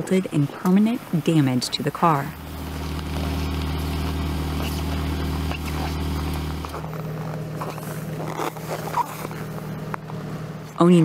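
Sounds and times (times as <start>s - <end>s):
higher car engine idling: 0.8s - 10.9s
car engine idling: 0.8s - 11.0s.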